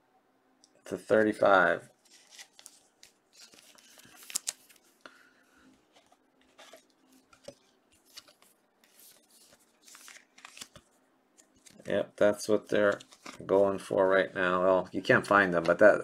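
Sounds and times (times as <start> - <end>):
cards scraping and rustling: 2.0 - 5.0, 5.8 - 15.9.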